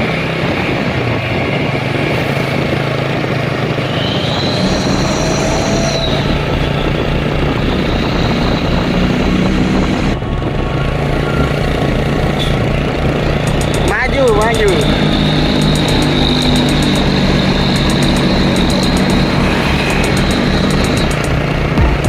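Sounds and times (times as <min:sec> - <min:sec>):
road noise: 0:00.0 - 0:22.0
vehicle engine running: 0:00.0 - 0:22.0
faint whining tones: 0:03.8 - 0:21.8.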